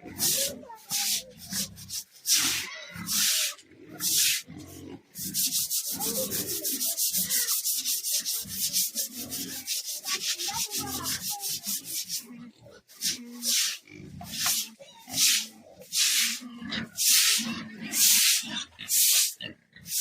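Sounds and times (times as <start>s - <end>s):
broom scrubbing floor: 0.0s - 4.5s, 5.2s - 12.3s, 12.9s - 20.0s.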